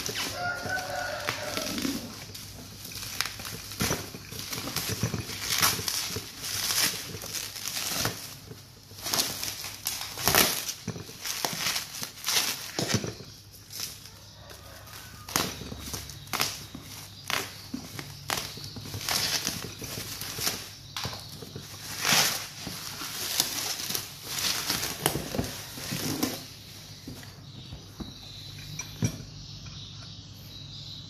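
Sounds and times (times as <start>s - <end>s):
bubble wrap crinkling and crackling: 0.0s - 28.4s.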